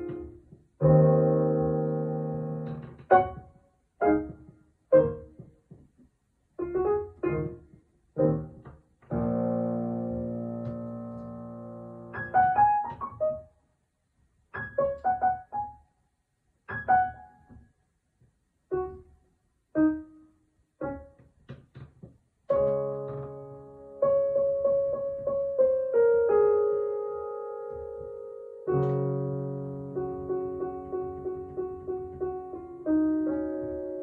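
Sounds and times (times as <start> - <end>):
solo piano playing: 0.0 - 5.5, 6.6 - 13.5, 14.5 - 15.9, 16.7 - 17.6, 18.7 - 21.5, 22.5 - 34.0.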